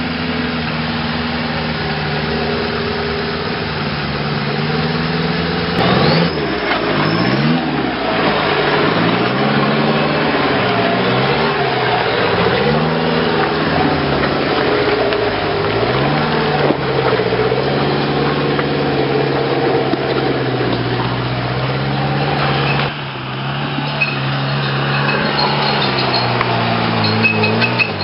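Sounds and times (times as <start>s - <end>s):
off-road engine revving: 0.0s - 28.0s
second engine running: 0.0s - 28.0s.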